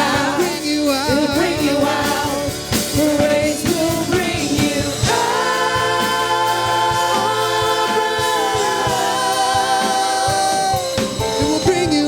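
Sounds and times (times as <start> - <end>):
congregation singing gospel song: 0.0 - 12.0
live band backing: 0.0 - 12.0.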